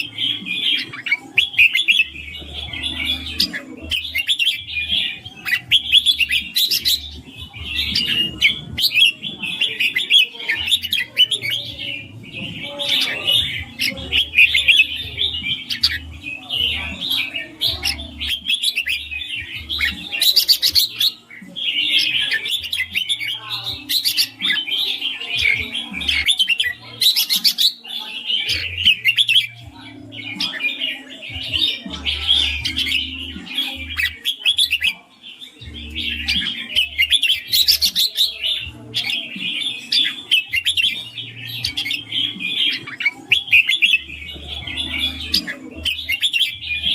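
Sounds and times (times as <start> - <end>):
bulbul singing warbling notes: 0.0 - 46.9.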